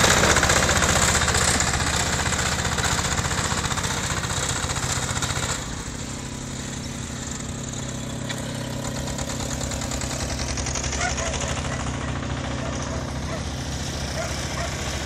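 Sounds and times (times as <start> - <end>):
garden tractor engine running: 0.0 - 15.0.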